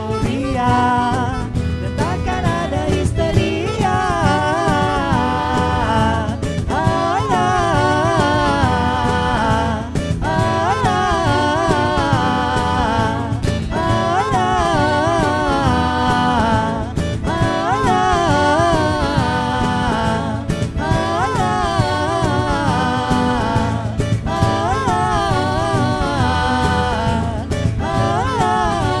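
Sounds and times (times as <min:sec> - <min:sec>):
live band music: 0:00.0 - 0:29.0.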